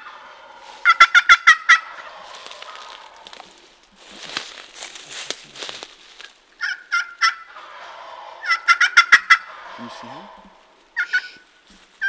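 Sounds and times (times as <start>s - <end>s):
turkeys gobbling: 0.0s - 5.9s, 6.6s - 11.6s.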